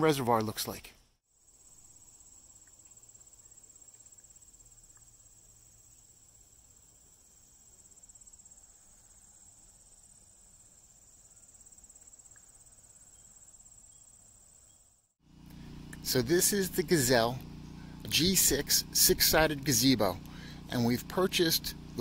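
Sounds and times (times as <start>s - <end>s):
insects trilling: 1.3s - 22.0s.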